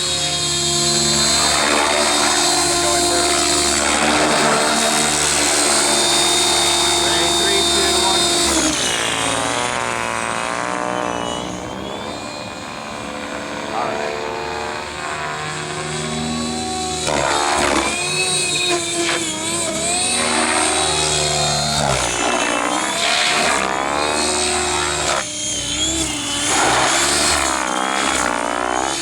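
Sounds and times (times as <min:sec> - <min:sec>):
rc helicopter motor whine: 0:00.0 - 0:29.0.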